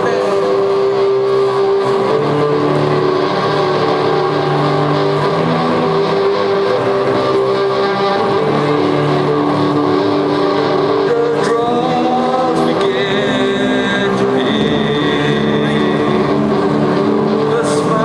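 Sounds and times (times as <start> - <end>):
loud distorted music: 0.0 - 18.0.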